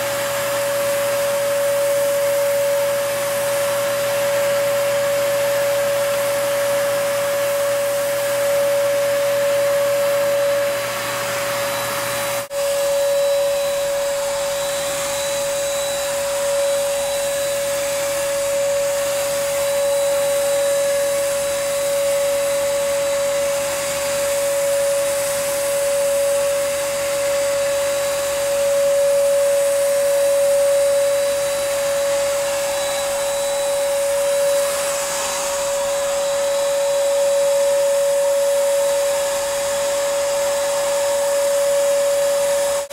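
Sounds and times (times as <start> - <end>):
paint sprayer whine: 0.0 - 42.9.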